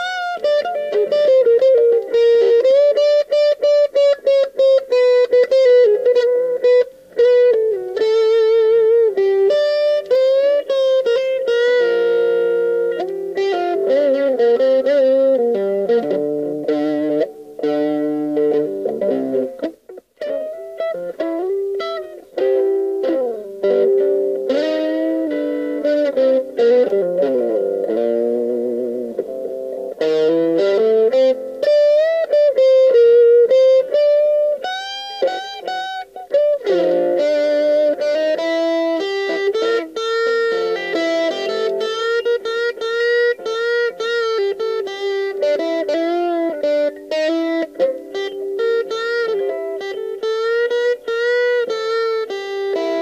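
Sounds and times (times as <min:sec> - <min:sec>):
electric guitar riffs: 0:00.0 - 0:53.0.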